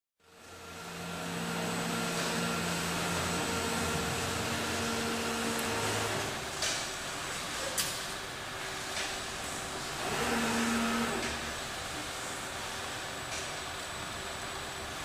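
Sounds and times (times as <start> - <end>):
machinery hum: 0.2 - 15.0.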